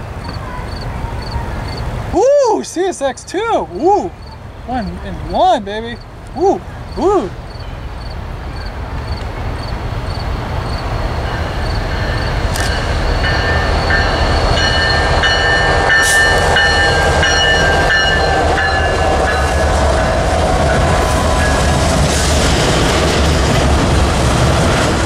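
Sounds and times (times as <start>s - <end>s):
locomotive engines rumbling: 0.0s - 25.0s.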